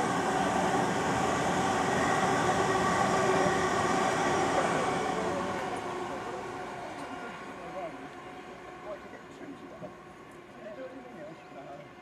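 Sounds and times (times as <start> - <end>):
train wheels rumbling on rails: 0.0 - 10.5.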